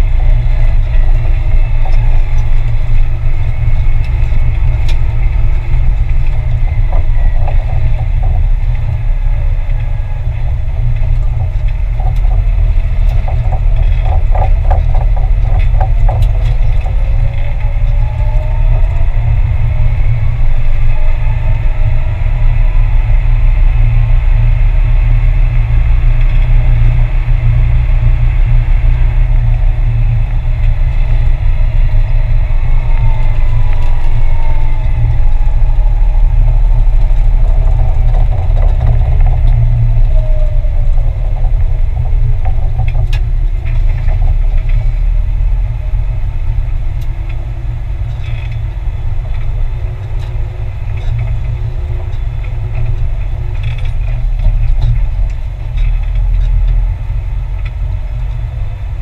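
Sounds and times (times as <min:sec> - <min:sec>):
falling whine: 0:00.0 - 0:59.0
tractor diesel engine running: 0:00.0 - 0:59.0.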